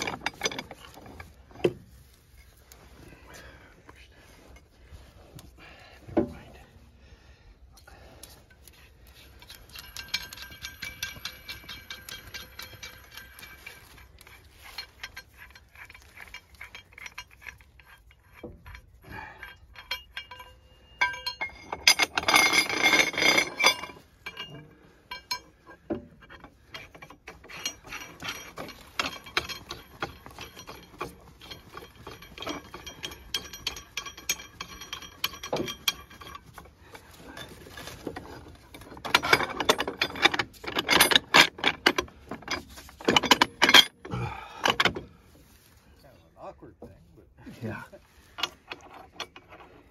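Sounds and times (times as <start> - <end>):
steel parts clinking and rattling: 0.0 - 6.9, 7.7 - 49.9.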